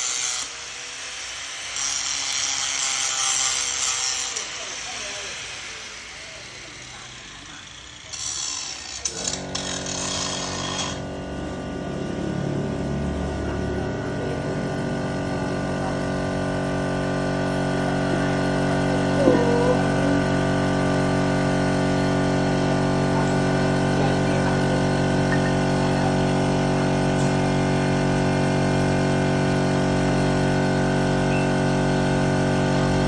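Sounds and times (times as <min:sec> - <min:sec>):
angle grinder grinding iron: 0:00.0 - 0:33.0.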